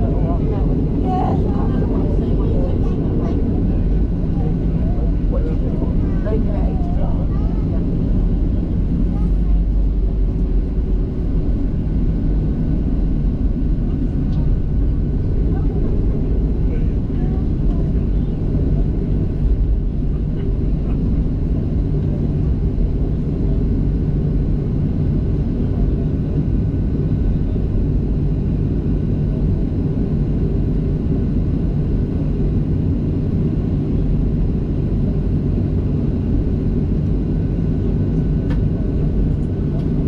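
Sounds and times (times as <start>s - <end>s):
jet engines low rumble: 0.0s - 40.0s.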